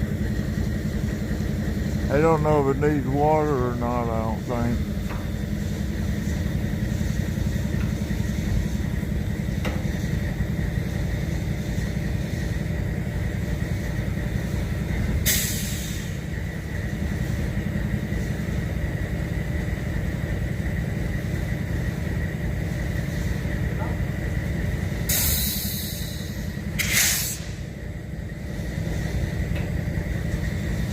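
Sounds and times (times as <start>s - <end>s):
diesel locomotives idling: 0.0s - 30.9s
air hissing: 0.4s - 18.7s, 21.8s - 30.9s.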